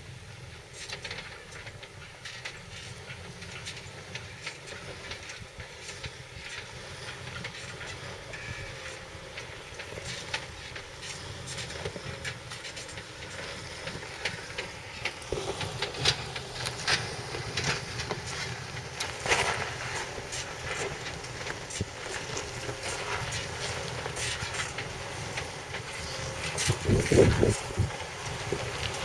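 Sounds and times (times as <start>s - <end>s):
engine running low: 0.0s - 29.0s
tyres crunching on rocks: 3.6s - 29.0s.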